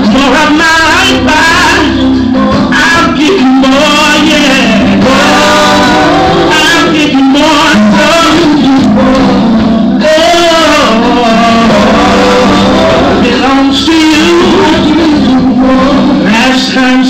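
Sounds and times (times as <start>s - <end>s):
band playing: 0.0s - 17.0s
held keyboard chords: 0.0s - 17.0s
woman singing gospel: 0.0s - 17.0s.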